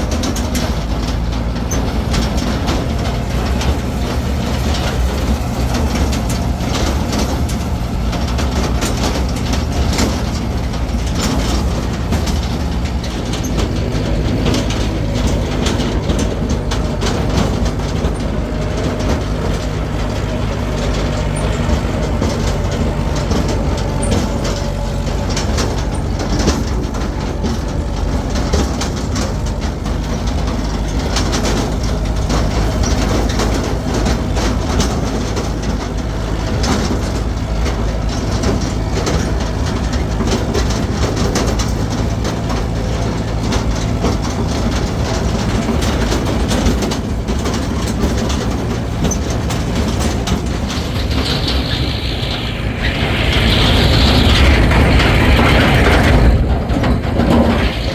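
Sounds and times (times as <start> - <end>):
engine drone: 0.0 - 57.9
rattling and knocking: 0.0 - 57.9.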